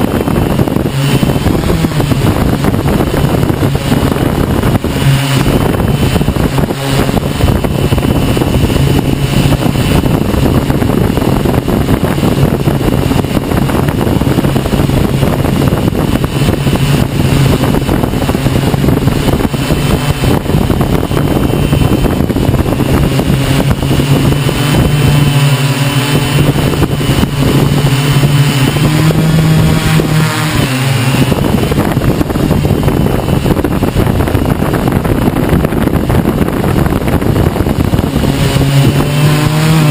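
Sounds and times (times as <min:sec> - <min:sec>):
drone motors humming: 0:00.0 - 0:39.9
wind noise on microphone: 0:00.0 - 0:39.9.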